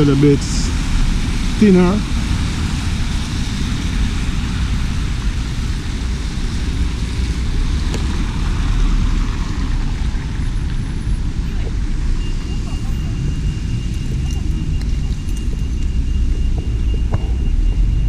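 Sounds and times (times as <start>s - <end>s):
low rumble: 0.6s - 18.0s.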